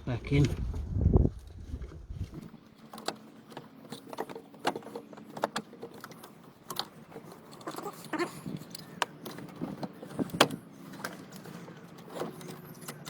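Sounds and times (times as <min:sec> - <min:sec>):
plastic parts clicking and knocking: 0:02.4 - 0:13.0.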